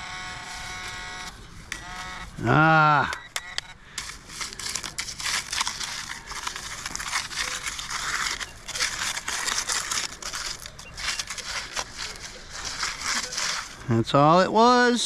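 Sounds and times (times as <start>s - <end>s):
gravel and sand being dug: 0.0s - 15.0s.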